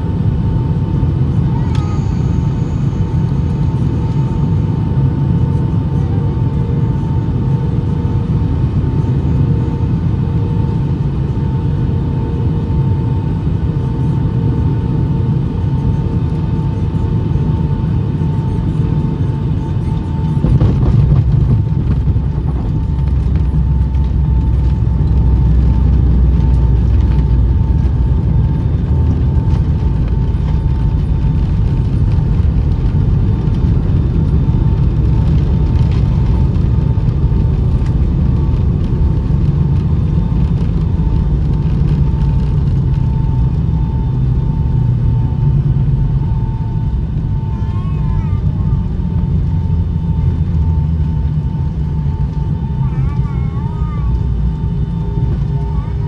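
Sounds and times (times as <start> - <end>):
jet engine and airflow noise: 0.0 - 56.0.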